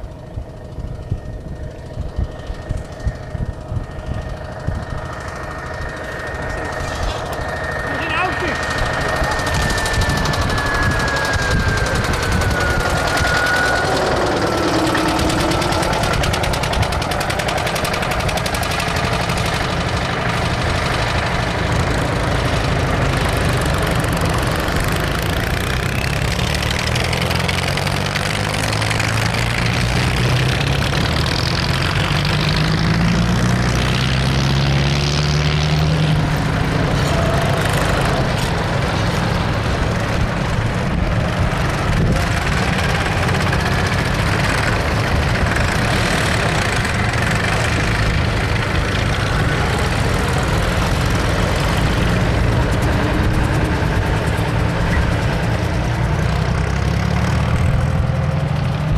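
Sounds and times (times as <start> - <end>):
tractor engines passing by: 0.0 - 58.9.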